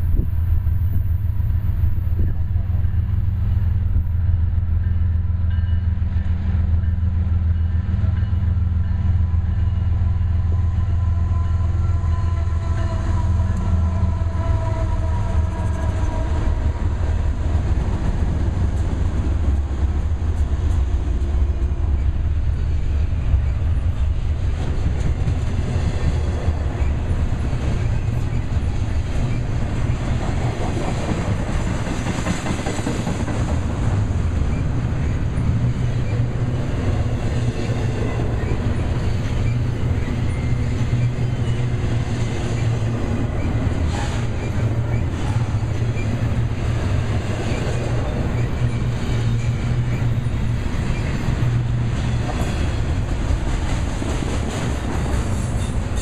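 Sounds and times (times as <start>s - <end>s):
diesel locomotive engine whine: 0.0s - 56.0s
train wheels rumbling on rails: 0.0s - 56.0s.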